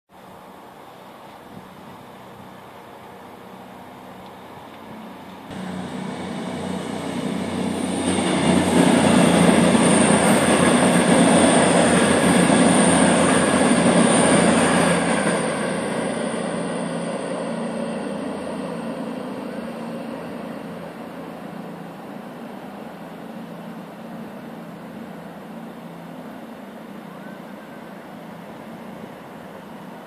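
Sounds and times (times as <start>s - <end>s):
diesel train passing at speed: 2.2s - 30.0s.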